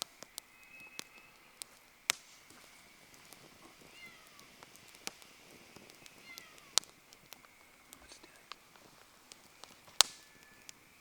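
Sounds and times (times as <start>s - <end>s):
campfire crackling: 0.0s - 11.0s
faint falling whistles: 0.0s - 11.0s
sharp fire pops: 0.0s - 11.0s.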